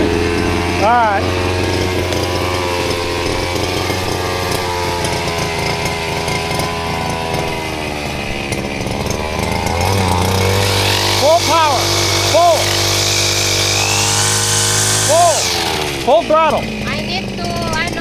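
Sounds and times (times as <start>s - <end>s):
small petrol engine running: 0.0s - 18.0s.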